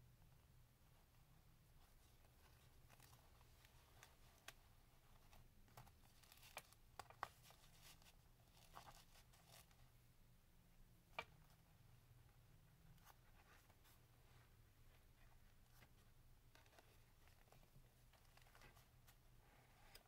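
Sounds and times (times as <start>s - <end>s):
faint paper rustling: 0.8s - 10.0s, 12.3s - 20.0s.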